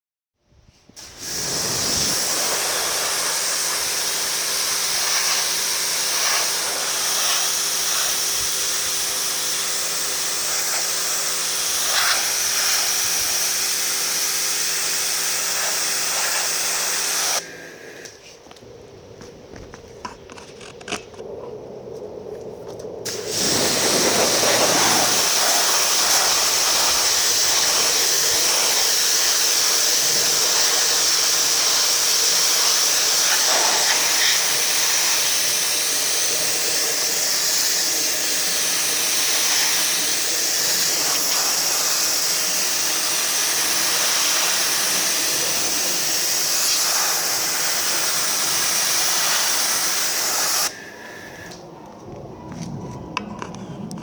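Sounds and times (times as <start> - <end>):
pressure washer spraying: 1.0 - 17.5, 23.1 - 51.5.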